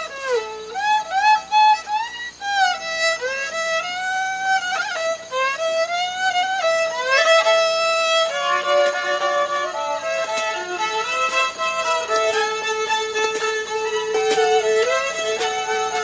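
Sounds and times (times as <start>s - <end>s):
solo violin melody: 0.0s - 16.0s.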